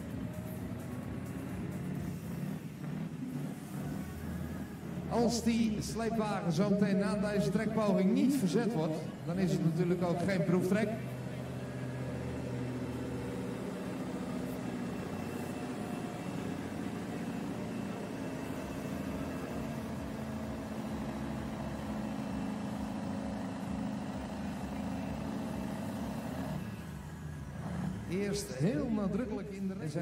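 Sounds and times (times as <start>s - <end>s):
diesel truck engine at full load: 0.0s - 30.0s.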